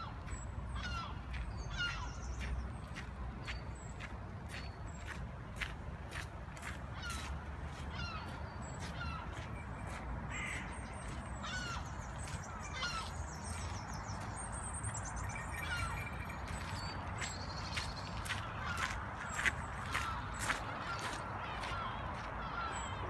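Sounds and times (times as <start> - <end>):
low city rumble: 0.0 - 23.0.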